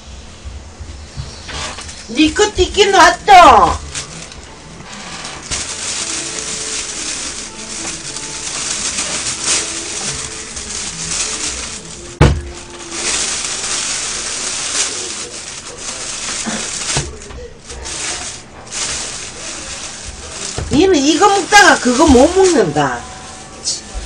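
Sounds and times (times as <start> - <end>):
plastic bag rustling: 1.2 - 24.0.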